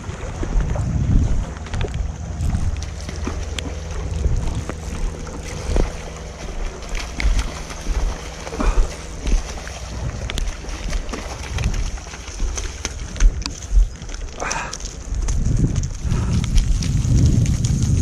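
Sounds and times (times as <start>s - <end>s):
wind buffeting the microphone: 0.0s - 18.0s.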